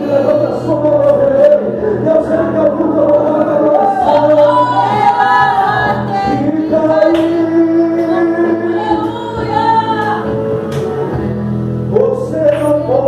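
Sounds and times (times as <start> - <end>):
people singing worship song: 0.0 - 11.3
instrumental backing: 0.0 - 13.0.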